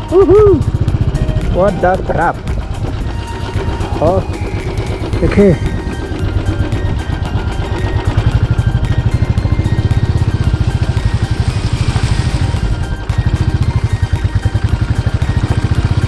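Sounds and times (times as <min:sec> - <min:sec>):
motorcycle engine running: 0:00.0 - 0:16.0
rush of hiss: 0:00.0 - 0:16.0.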